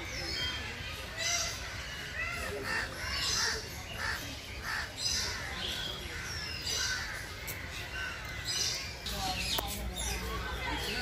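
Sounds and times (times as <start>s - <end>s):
raspy bird calls: 0.0s - 11.0s.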